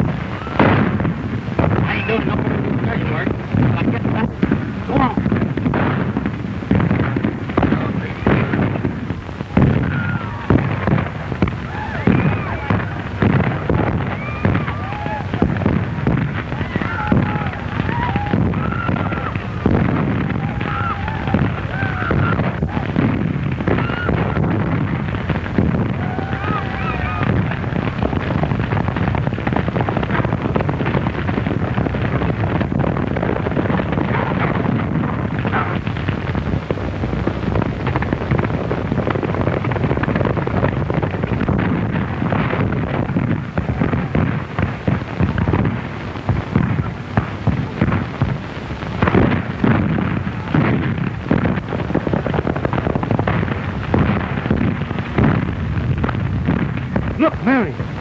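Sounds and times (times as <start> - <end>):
gunfire and blasts: 0.0 - 58.0.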